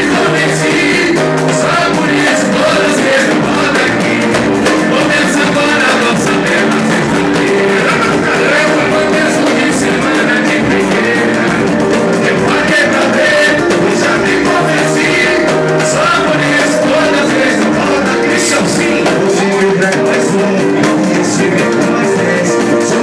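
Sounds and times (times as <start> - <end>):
hand drum busy rhythm: 0.0 - 23.0
samba band with singing: 0.0 - 23.0.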